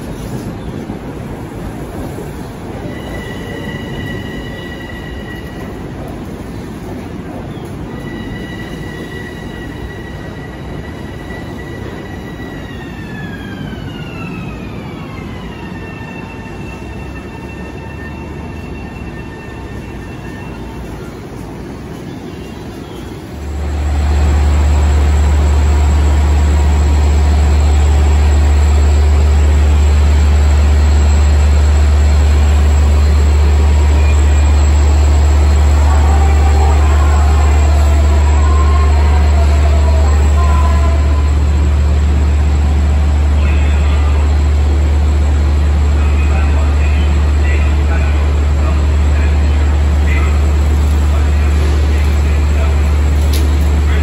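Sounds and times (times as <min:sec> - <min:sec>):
loud low train rumble: 0:00.0 - 0:54.0
train running on rails: 0:00.0 - 0:54.0.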